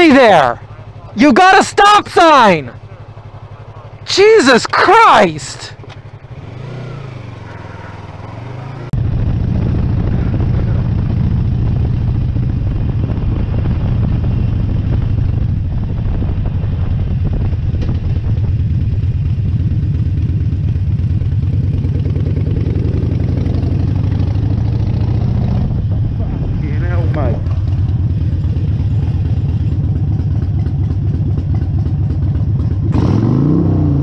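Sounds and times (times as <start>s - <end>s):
motorcycle engine low rumble: 0.0s - 34.0s
another motorcycle engine: 0.1s - 34.0s.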